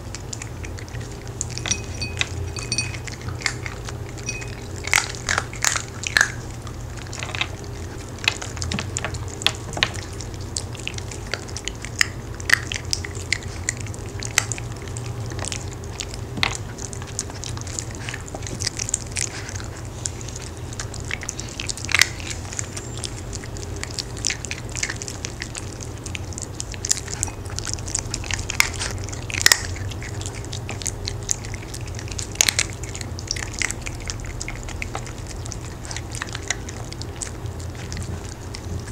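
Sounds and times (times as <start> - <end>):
dogs crunching hard cookies: 0.0 - 38.9
steady low hum: 0.0 - 38.9.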